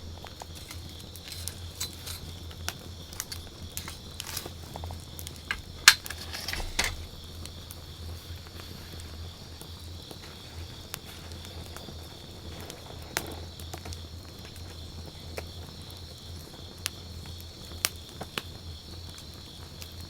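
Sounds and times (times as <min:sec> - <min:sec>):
campfire crackling: 0:00.0 - 0:19.9.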